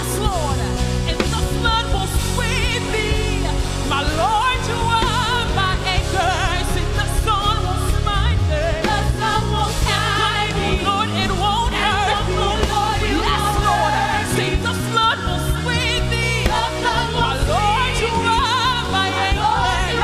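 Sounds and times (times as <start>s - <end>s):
voices singing gospel: 0.0s - 20.0s.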